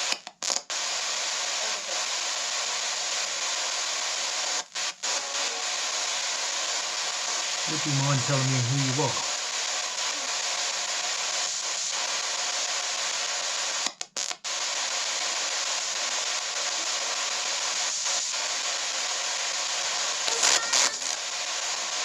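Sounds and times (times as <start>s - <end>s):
radio static hiss: 0.0s - 22.0s
static crackle: 0.0s - 22.0s.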